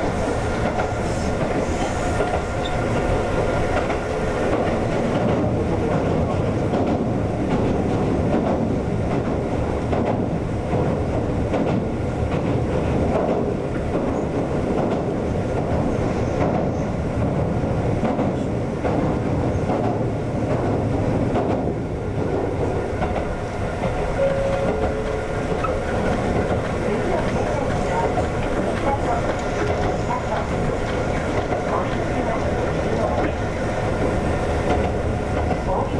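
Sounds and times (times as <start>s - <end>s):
electric train rumbling: 0.0s - 35.9s.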